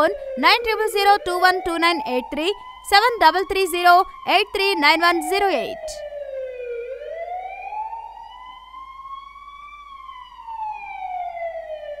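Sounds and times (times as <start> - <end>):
ambulance siren wailing: 0.0 - 12.0.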